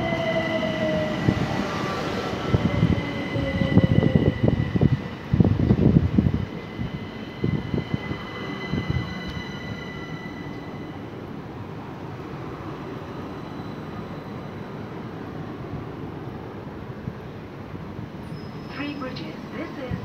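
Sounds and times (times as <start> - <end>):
train rolling rumble: 0.0 - 20.0.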